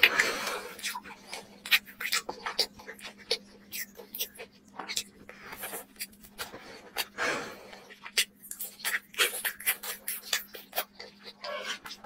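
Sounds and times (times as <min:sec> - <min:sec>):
wet eating mouth sounds: 0:00.0 - 0:12.0.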